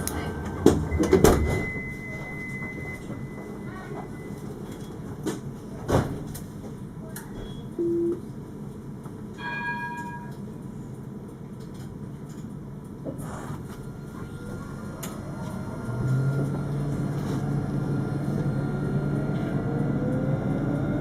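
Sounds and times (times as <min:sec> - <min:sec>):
tram low hum: 0:00.0 - 0:21.0.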